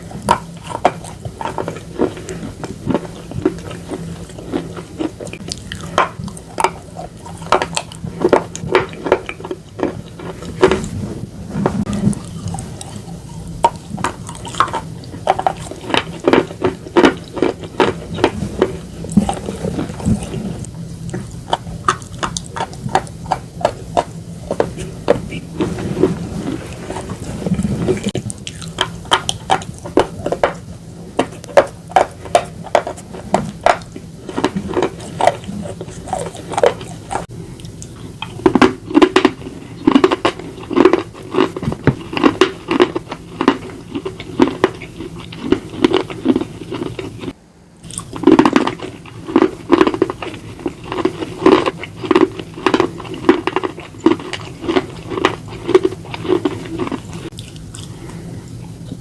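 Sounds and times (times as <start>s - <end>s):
crisp chewing crunches: 0.0s - 59.0s
low steady hum: 0.0s - 59.0s.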